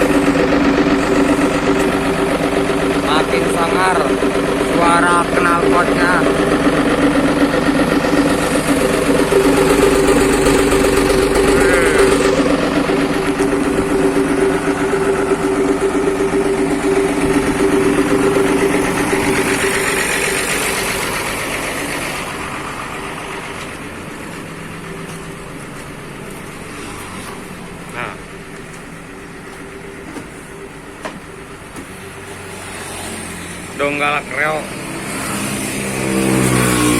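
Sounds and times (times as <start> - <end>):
bus engine droning: 0.0 - 36.9.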